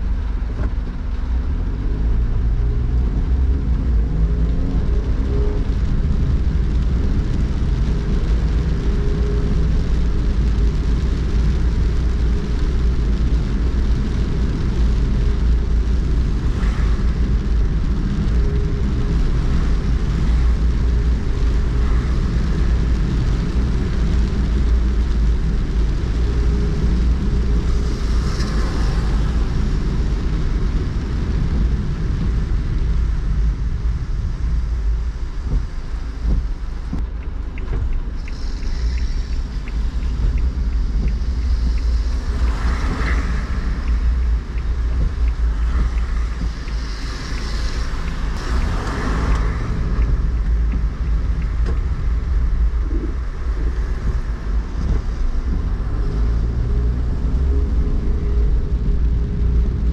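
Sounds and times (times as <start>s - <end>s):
road rumble inside car: 0.0s - 59.9s
wet tyre hiss: 11.2s - 59.9s.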